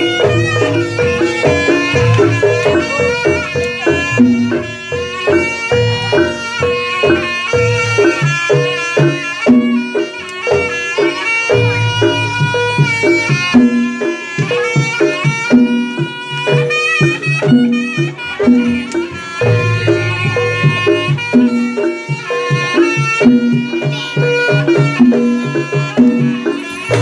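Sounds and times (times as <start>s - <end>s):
gong and metallophone notes: 0.0s - 27.0s
hand drum strokes: 0.0s - 27.0s.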